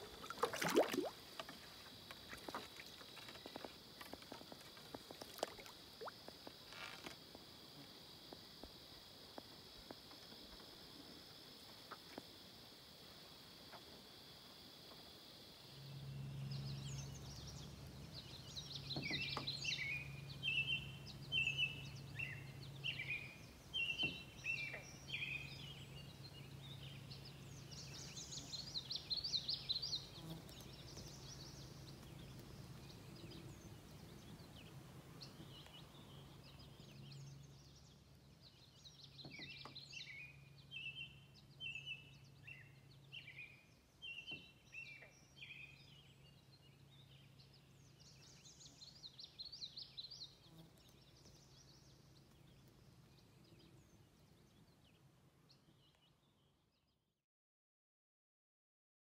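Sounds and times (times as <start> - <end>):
faint low hum: 0.0 - 56.8
songbird chirping: 0.0 - 57.0.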